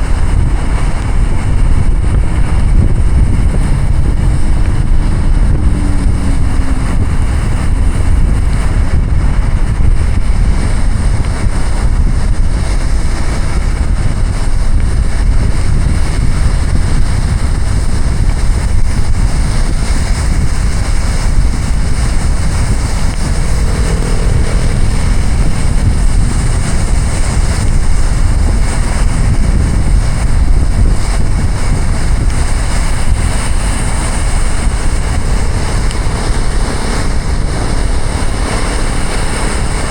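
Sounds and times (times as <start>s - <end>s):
heavy rain: 0.0s - 39.9s
tyres on wet road: 0.0s - 39.9s.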